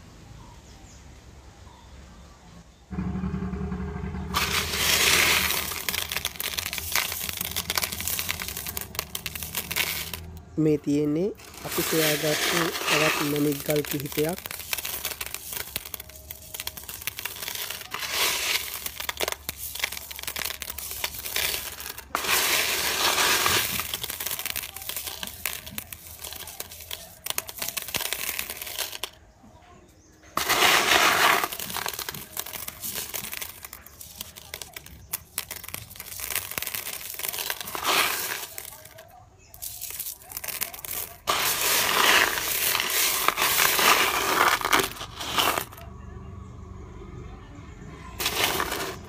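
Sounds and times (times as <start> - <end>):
stones clicking and rattling: 4.3 - 29.4, 30.2 - 45.9, 48.2 - 49.0.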